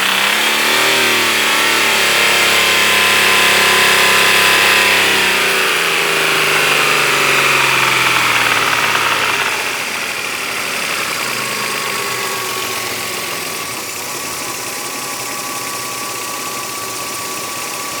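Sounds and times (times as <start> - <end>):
knocking car engine idling: 0.0 - 18.0.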